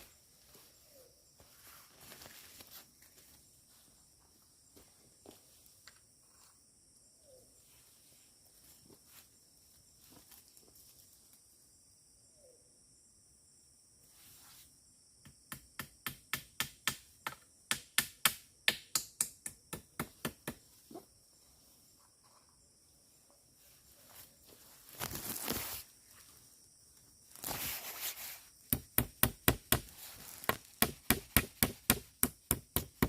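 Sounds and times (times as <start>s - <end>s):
faint insect hum: 0.0s - 33.0s.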